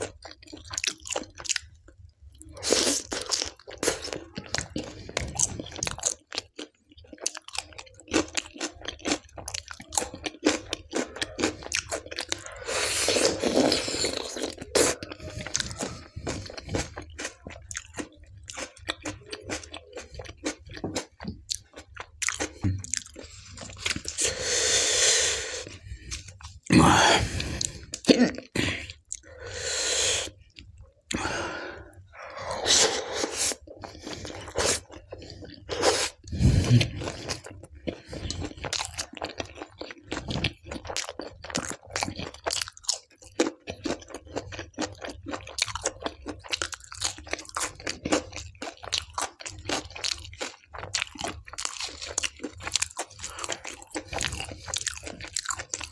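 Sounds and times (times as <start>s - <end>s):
man chewing with mouth clicks: 0.0s - 55.9s.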